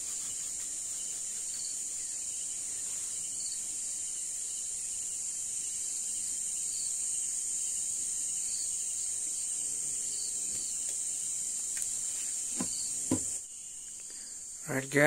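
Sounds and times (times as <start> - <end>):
crickets trilling: 0.0 - 15.0
faint insect chirping: 0.0 - 15.0.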